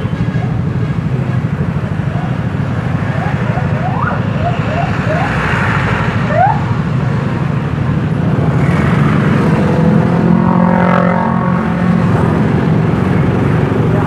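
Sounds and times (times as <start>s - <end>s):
motorcycle engine: 0.0s - 14.0s
scooter and car traffic: 0.0s - 14.0s.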